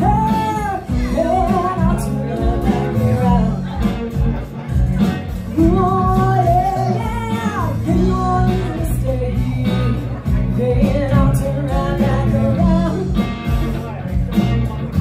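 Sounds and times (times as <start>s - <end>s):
woman singing: 0.0s - 4.2s, 5.5s - 13.4s
acoustic guitar: 0.0s - 15.0s
bass guitar: 0.0s - 15.0s
electric guitar: 0.0s - 15.0s.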